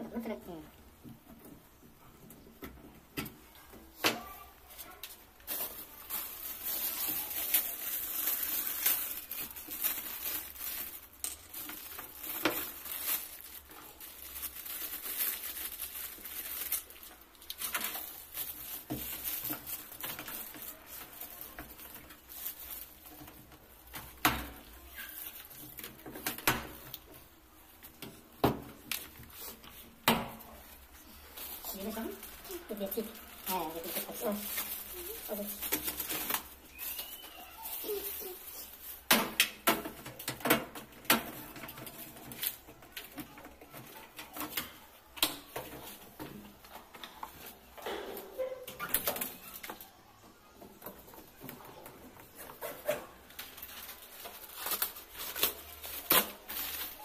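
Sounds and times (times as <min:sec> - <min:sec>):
plastic bag rustling: 0:00.0 - 0:50.0, 0:50.7 - 0:57.0.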